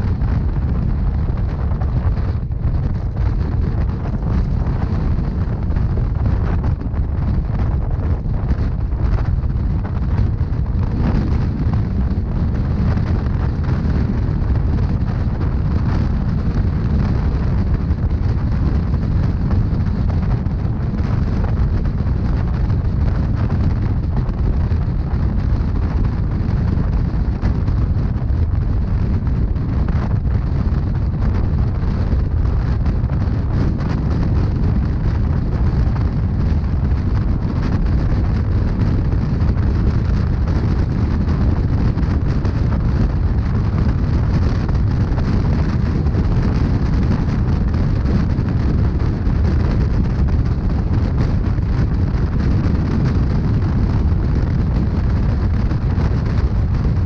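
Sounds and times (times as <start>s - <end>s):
train rumble heard on board: 0.0s - 57.0s.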